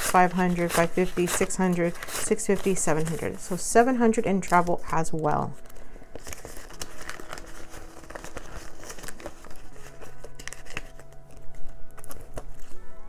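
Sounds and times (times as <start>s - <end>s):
banknotes rustling and crinkling: 0.0s - 13.0s.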